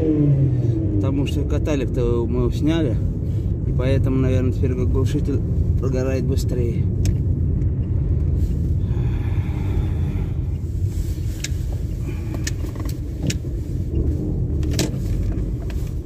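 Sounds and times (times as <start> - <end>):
engine and exhaust rumble: 0.0 - 16.0.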